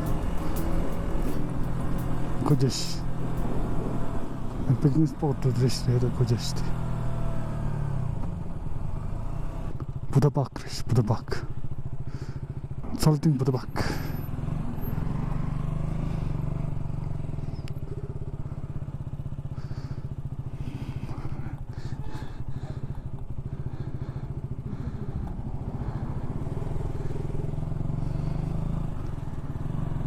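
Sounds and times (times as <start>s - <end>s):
motorcycle engine running: 0.0s - 10.3s, 11.2s - 30.0s
road and wind noise: 0.0s - 30.0s.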